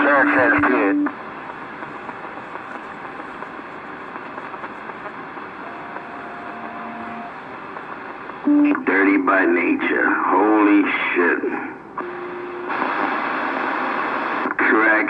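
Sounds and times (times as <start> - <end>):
radio channel hiss: 0.0 - 15.0.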